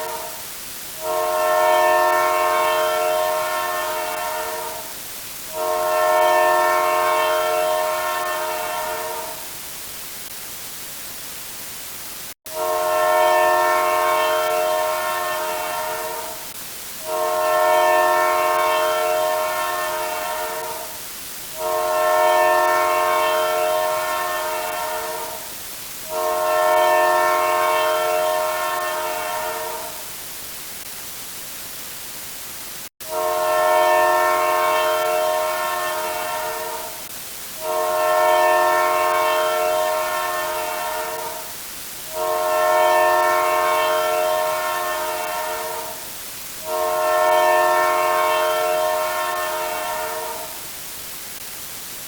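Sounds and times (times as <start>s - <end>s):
train horn blasts: 0.0s - 9.6s, 12.5s - 30.2s, 33.0s - 50.7s.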